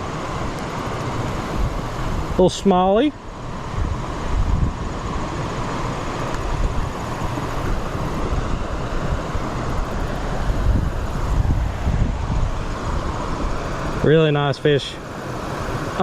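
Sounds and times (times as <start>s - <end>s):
creek water rushing: 0.0s - 16.0s
wind buffeting microphone: 0.8s - 14.1s.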